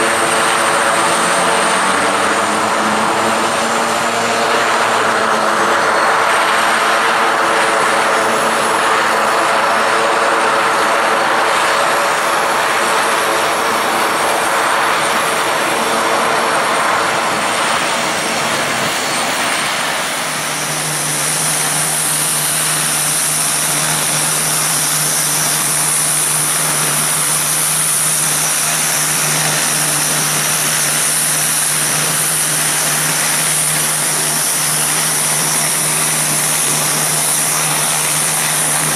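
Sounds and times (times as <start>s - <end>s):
high whine: 0.0s - 38.9s
turboprop engines running: 0.0s - 38.9s.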